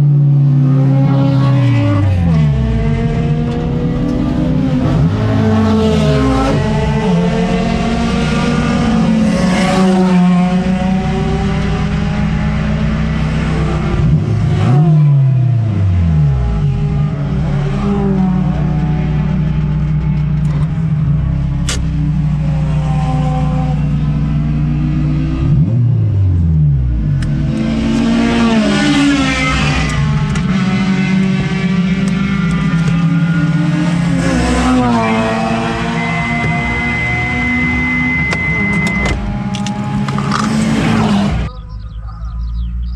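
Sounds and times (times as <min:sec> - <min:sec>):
car engine at high revs: 0:00.0 - 0:42.9.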